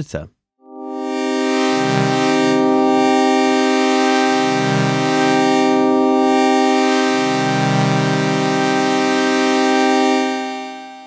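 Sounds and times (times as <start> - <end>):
morphing synth pad: 0.6 - 11.0.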